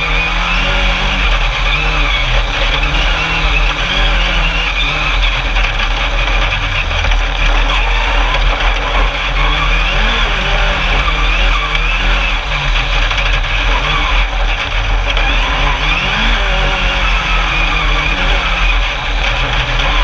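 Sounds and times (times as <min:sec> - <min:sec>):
buggy engine running hard: 0:00.0 - 0:20.0.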